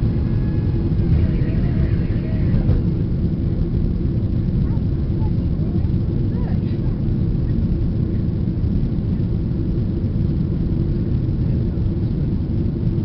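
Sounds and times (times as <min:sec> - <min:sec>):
faint steady drone: 0:00.0 - 0:13.0
jet engine and airflow rumble: 0:00.0 - 0:13.0.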